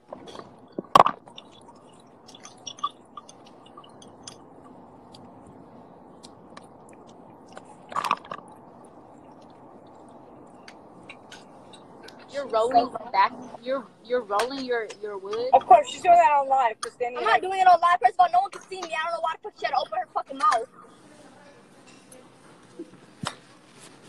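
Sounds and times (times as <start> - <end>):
crackling and rustling on microphone: 0.0 - 24.0
steady low hiss: 0.0 - 24.0.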